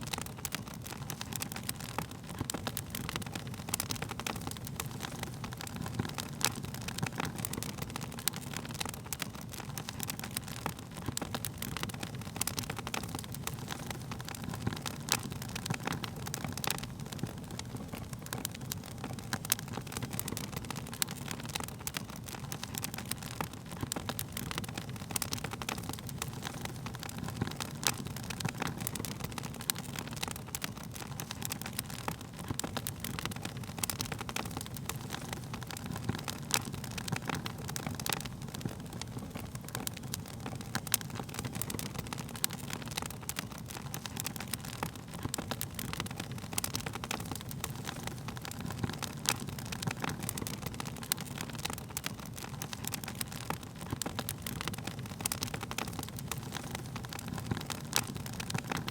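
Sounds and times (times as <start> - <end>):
burning wood crackling and popping: 0.0 - 58.9
wood fire rumbling: 0.0 - 58.9.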